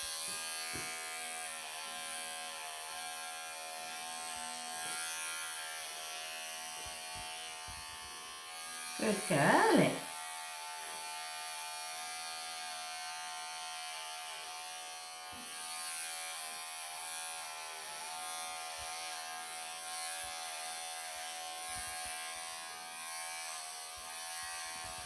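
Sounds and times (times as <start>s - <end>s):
electric clippers buzzing: 0.0s - 25.0s.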